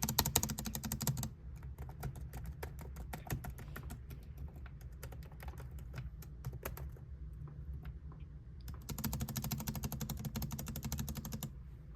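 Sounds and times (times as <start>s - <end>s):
laptop keyboard typing: 0.0s - 7.1s, 8.6s - 11.6s.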